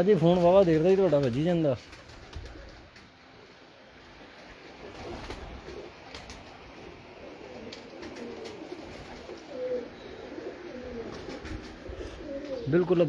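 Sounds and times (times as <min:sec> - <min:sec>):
pigeons cooing: 0:01.9 - 0:13.0.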